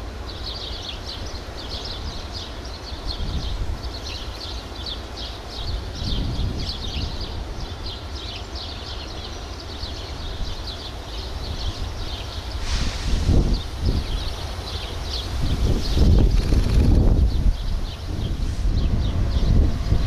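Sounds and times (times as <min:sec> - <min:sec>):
small birds chirping: 0:00.3 - 0:20.0.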